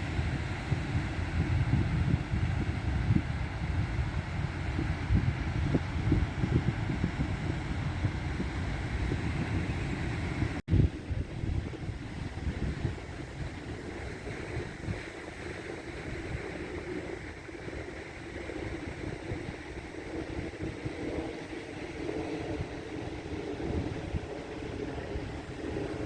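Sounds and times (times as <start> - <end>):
surf on a beach: 0.0 - 26.0
wind buffeting microphone: 0.0 - 26.0.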